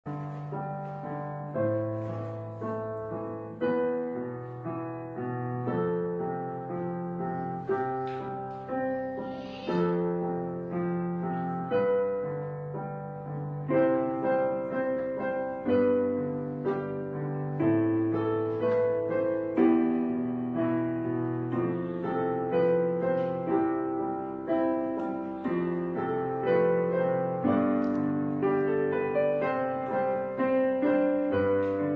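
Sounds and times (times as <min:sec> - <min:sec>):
piano chords: 0:00.0 - 0:31.9.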